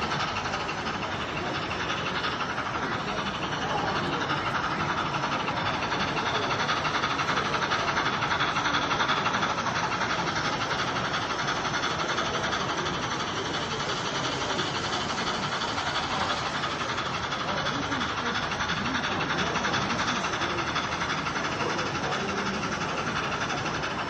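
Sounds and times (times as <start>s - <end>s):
model train wheels on track: 0.0s - 24.0s.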